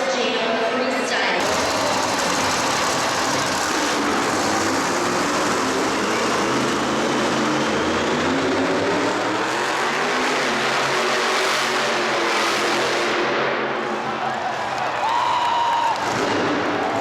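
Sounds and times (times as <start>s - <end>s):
arena noise: 0.0s - 17.0s
loud vehicle engine running: 1.4s - 15.1s, 15.9s - 17.0s.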